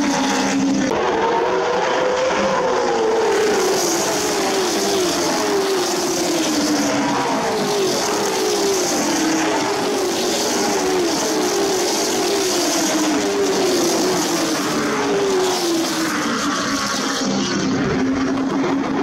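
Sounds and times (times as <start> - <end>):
race cars passing by: 0.0 - 19.0.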